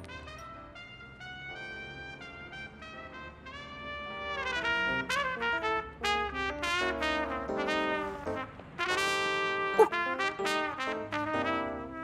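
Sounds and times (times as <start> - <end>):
trumpet melody: 0.0 - 12.0.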